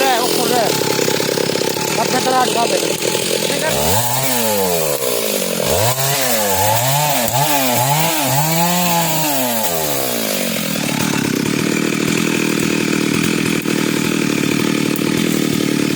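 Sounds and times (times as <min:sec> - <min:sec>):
chainsaw revving: 0:00.0 - 0:15.9.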